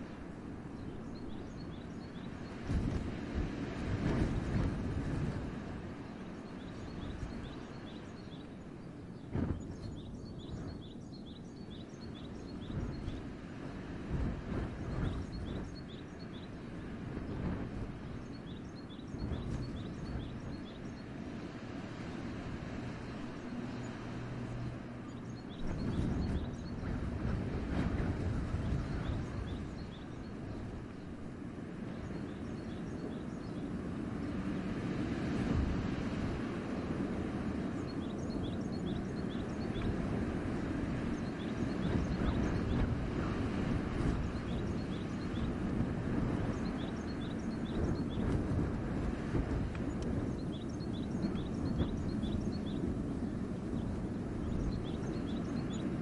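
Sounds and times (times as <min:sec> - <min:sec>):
wind gusting in forest: 0:00.0 - 0:56.0.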